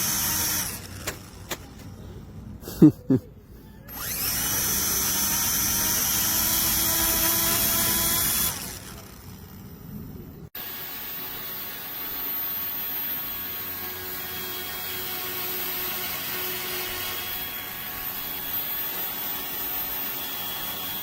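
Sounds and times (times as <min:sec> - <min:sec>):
model airplane motor whirring: 0:00.0 - 0:02.0, 0:03.8 - 0:21.0.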